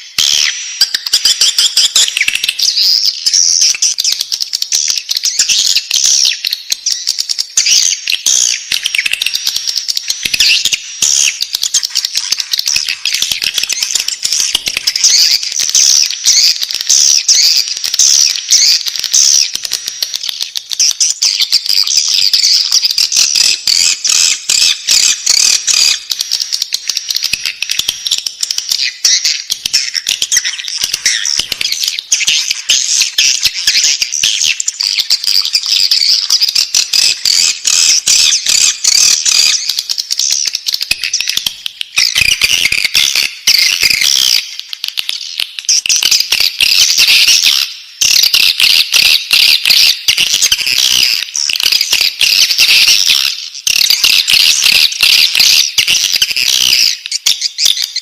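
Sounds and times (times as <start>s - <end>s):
chicks twittering: 0.0s - 58.0s.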